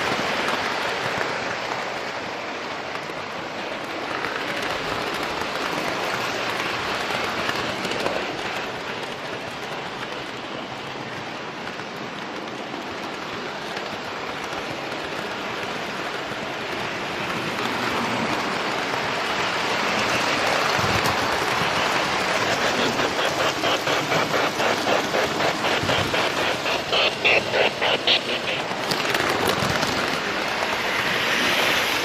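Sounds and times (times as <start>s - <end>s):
train rolling on rails: 0.0s - 32.0s.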